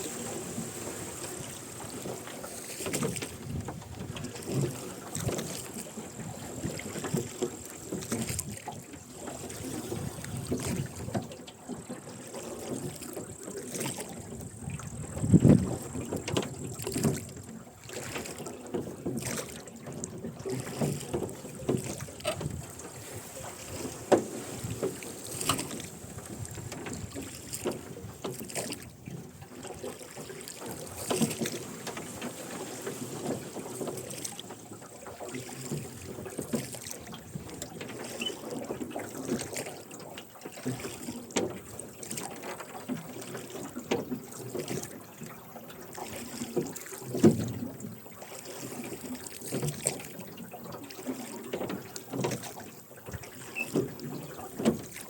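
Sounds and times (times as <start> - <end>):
oars splashing in water: 0.0 - 55.0.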